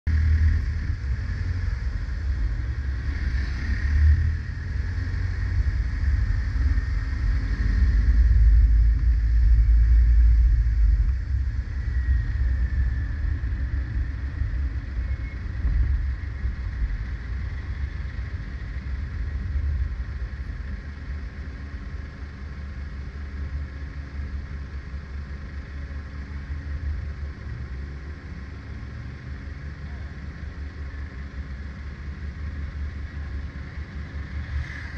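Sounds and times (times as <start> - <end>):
car road and wind noise: 0.0 - 34.9.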